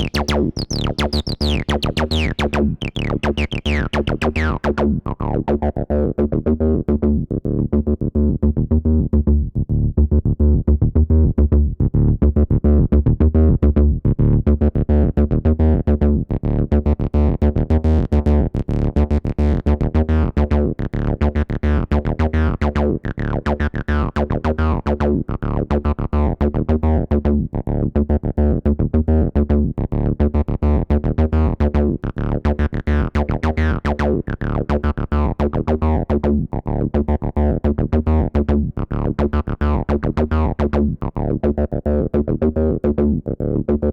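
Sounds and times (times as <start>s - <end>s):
acid bass synthesizer sequence: 0.0s - 43.9s.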